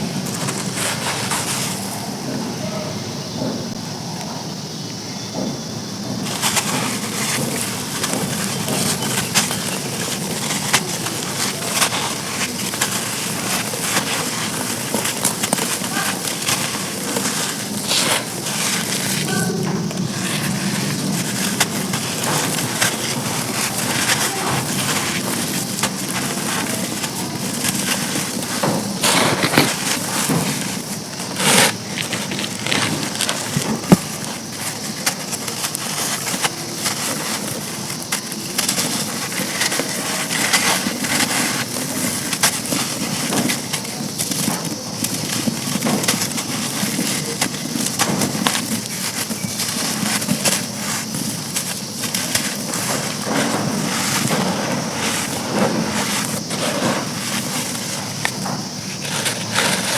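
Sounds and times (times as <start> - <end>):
charcoal crunching: 0.0 - 2.8, 6.2 - 59.9.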